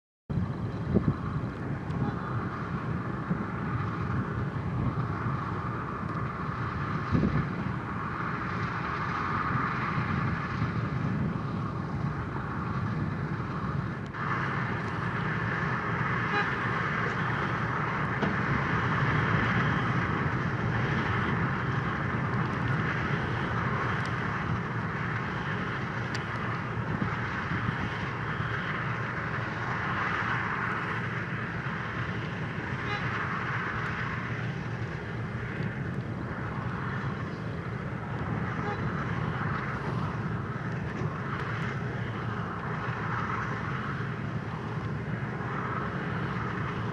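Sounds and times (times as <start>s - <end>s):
dump trucks working: 0.3s - 46.9s
milling machine cutting road: 0.3s - 46.9s.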